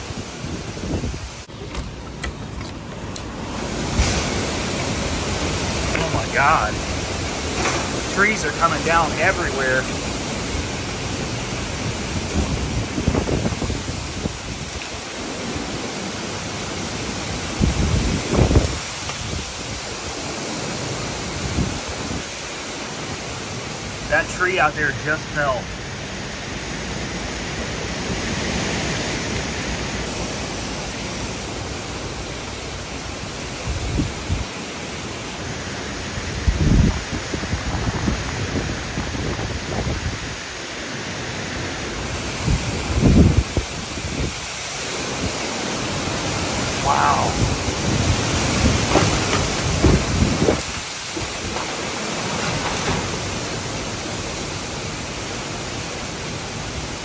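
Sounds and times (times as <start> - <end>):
driving rain: 0.0 - 57.0
high wind gusts: 0.0 - 57.0.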